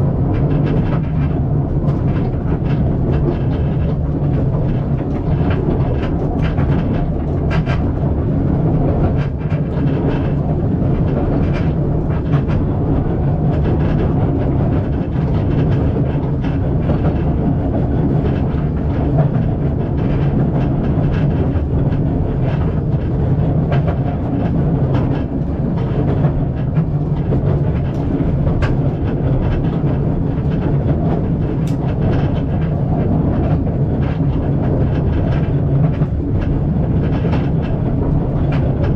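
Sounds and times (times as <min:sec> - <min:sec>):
railway carriage rumble: 0:00.0 - 0:38.9
wheels clicking and knocking: 0:00.0 - 0:38.9.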